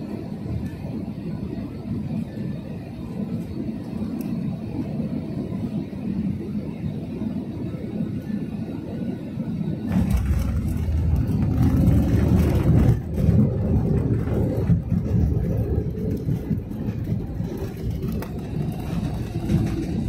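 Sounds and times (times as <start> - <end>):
airliner engine and wheel rumble: 0.0 - 20.0.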